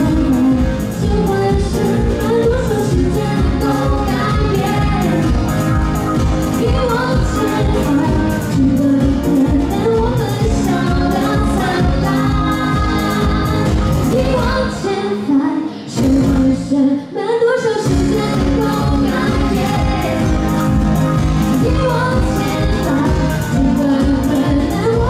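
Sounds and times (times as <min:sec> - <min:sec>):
woman singing: 0:00.0 - 0:05.8, 0:06.4 - 0:25.0
steady drum beat: 0:00.0 - 0:14.5, 0:17.9 - 0:25.0.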